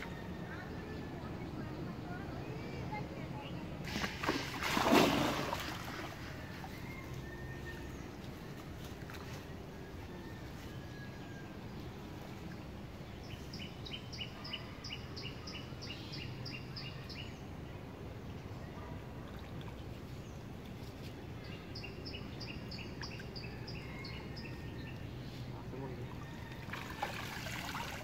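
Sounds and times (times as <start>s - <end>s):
low outdoor background noise: 0.0s - 28.0s.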